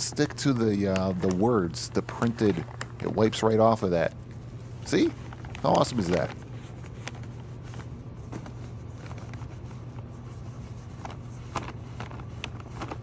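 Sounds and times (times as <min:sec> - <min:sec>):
cloth rubbing plastic: 0:00.0 - 0:13.0
low background hum: 0:00.0 - 0:13.0.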